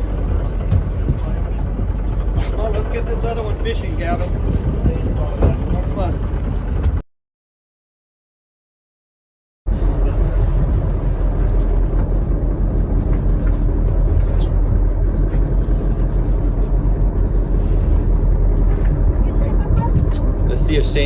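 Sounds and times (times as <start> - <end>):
boat engine low rumble: 0.0 - 7.0, 9.7 - 21.0.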